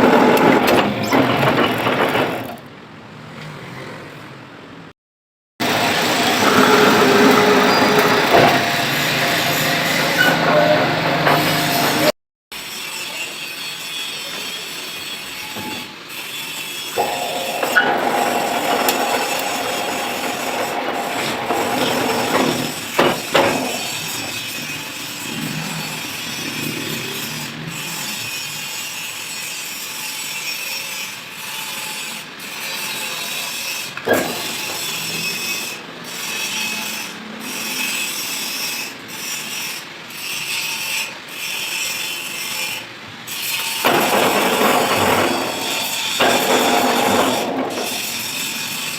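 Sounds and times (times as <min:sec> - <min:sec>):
lathe cutting metal: 0:00.0 - 0:02.6, 0:05.6 - 0:48.9.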